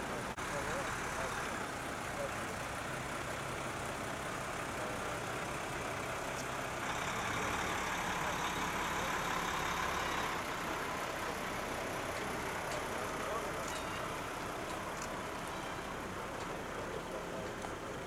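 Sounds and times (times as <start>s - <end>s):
truck diesel engine passing: 0.0s - 18.0s.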